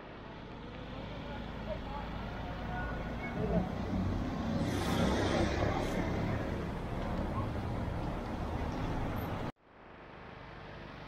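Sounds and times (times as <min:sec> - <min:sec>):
vehicle traffic: 0:00.0 - 0:11.0.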